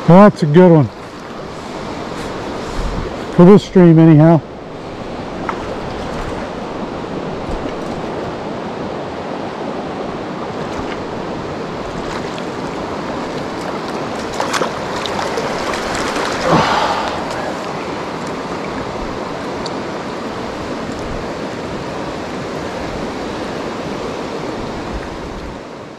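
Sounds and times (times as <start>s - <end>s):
creek water rushing over rocks: 0.0s - 25.9s.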